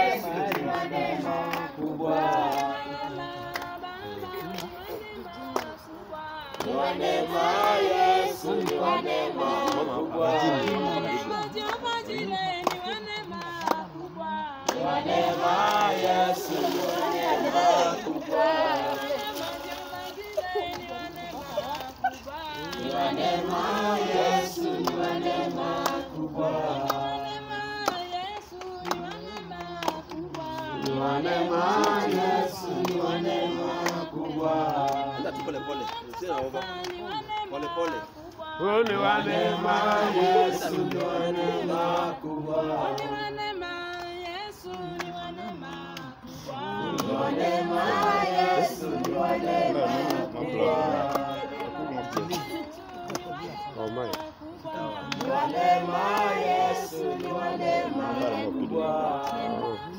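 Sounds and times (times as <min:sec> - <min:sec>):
group of people singing: 0:00.0 - 0:59.9.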